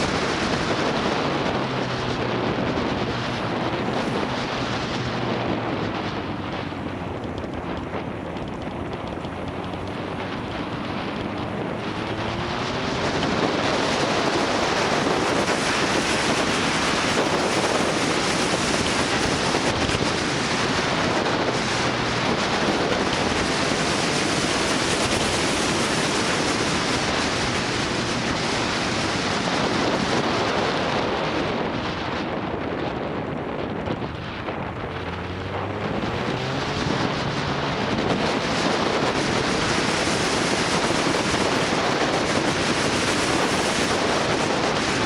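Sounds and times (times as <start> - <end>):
motorcycle engine accelerating: 0.0 - 45.0
wind rushing over microphone: 0.0 - 45.0.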